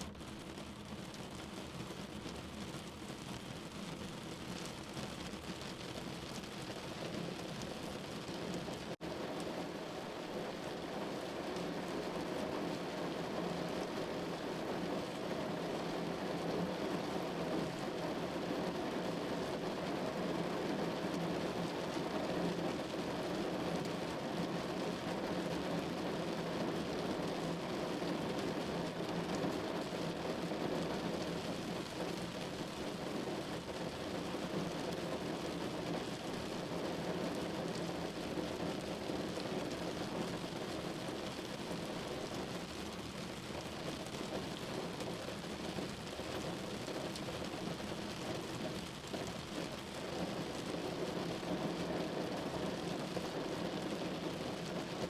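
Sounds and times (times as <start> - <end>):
rain falling on a window: 0.0 - 55.0.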